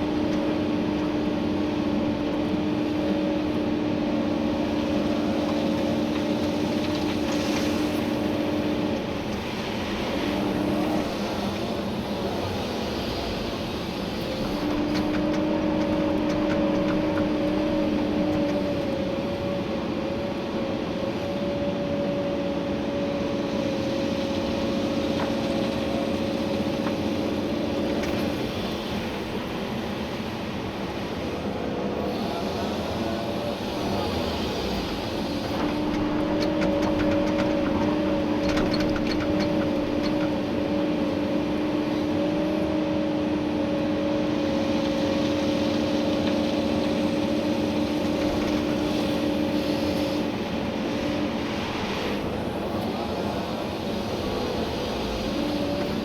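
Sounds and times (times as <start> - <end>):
excavator diesel engine: 0.0 - 56.0
hydraulic whine: 0.0 - 56.0.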